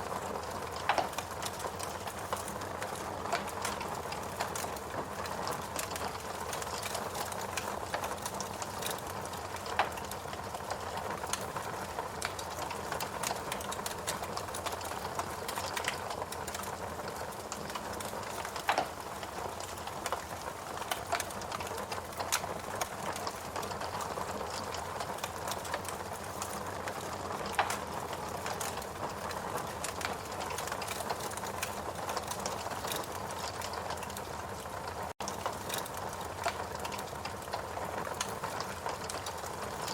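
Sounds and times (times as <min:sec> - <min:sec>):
fireplace crackling: 0:00.0 - 0:39.9.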